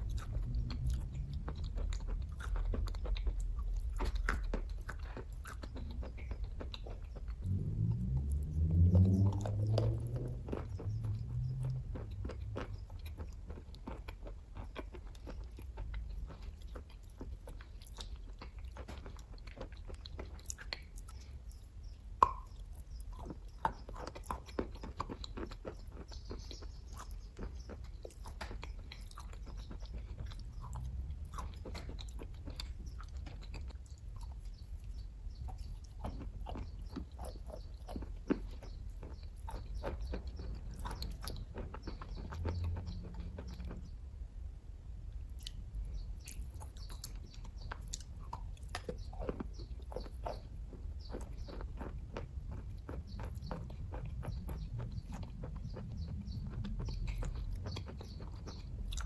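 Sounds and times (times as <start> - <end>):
person chewing with wet smacks: 0.0 - 44.1, 45.1 - 59.0.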